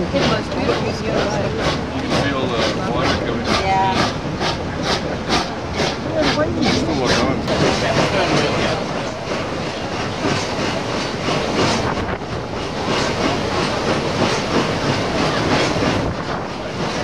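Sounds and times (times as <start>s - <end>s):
steam engine rhythmic beat: 0.0s - 17.0s
water churning: 0.0s - 17.0s.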